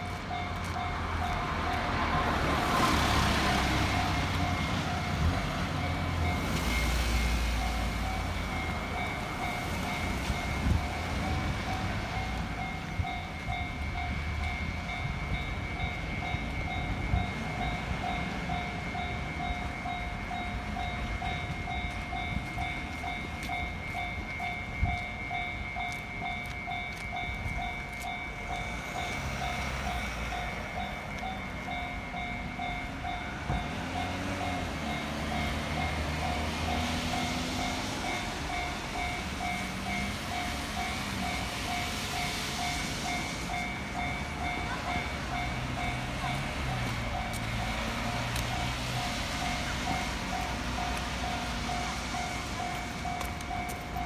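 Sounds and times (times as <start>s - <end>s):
level-crossing warning bell ringing: 0.0s - 54.0s
road traffic noise: 0.0s - 54.0s
train wheels clicking over rail joints: 0.0s - 54.0s.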